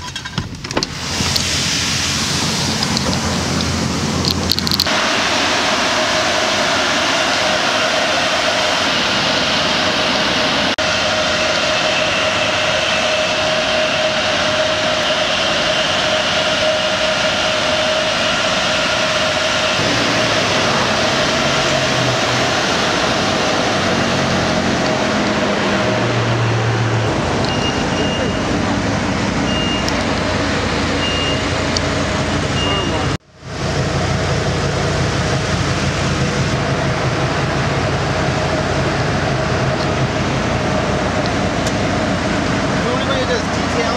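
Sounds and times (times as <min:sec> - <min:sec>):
air-dryer blowers roaring: 0:00.0 - 0:43.9
deep hum: 0:00.0 - 0:43.9.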